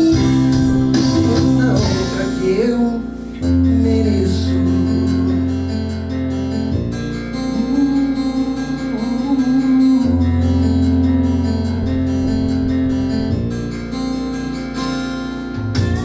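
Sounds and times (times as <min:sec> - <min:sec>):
bass guitar notes: 0:00.0 - 0:16.0
strummed guitar: 0:00.0 - 0:16.0.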